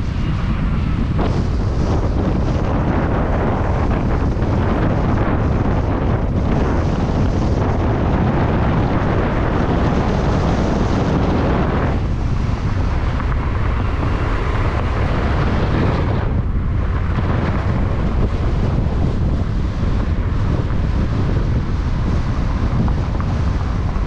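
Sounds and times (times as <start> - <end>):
car tyre and road noise: 0.0 - 24.0
wind rushing on microphone: 0.0 - 24.0.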